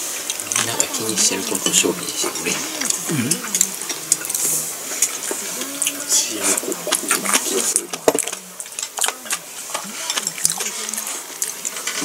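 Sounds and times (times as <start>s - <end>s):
chewing: 0.2s - 12.0s.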